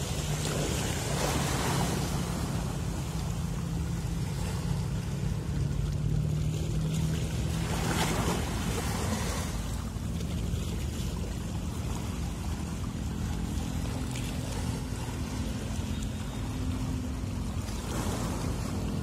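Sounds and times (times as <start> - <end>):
ship engine drone: 0.0 - 19.0
water wash: 0.0 - 19.0.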